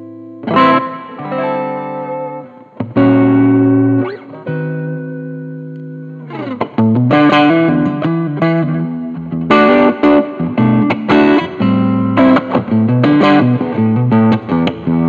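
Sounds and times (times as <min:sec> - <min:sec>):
electric guitar playing: 0:00.0 - 0:15.0.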